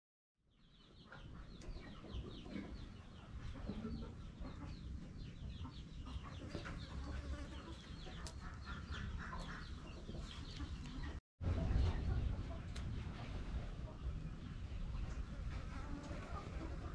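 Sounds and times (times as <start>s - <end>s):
chickens clucking and cheeping: 0.5s - 16.9s.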